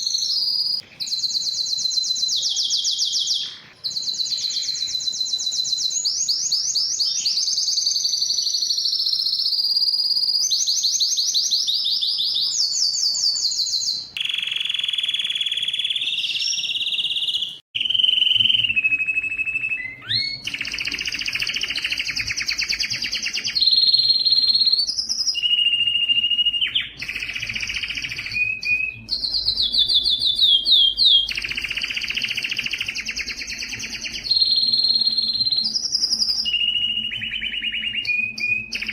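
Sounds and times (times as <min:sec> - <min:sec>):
canary singing rapid trills: 0:00.0 - 0:38.9.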